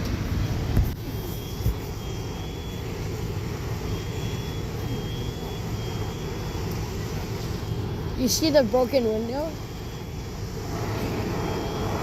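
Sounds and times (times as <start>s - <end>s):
low engine rumble: 0.0s - 12.0s
faint high-pitched alarm tone: 1.0s - 12.0s.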